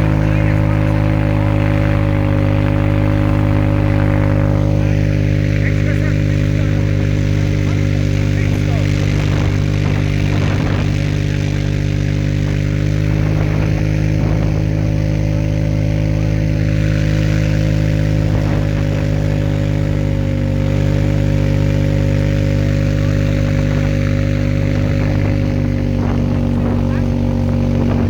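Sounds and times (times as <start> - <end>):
motor droning hum: 0.0 - 28.0.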